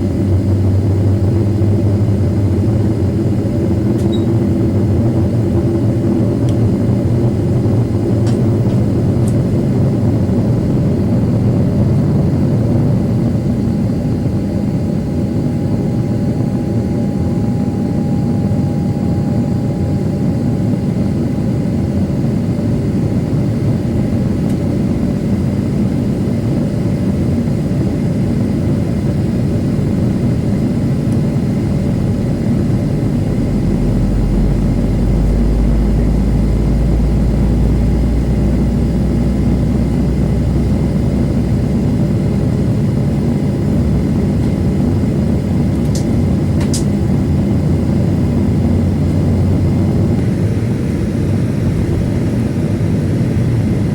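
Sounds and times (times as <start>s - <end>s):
deep engine rumble: 0.0s - 53.9s
jet engine hum with whine: 0.0s - 53.9s.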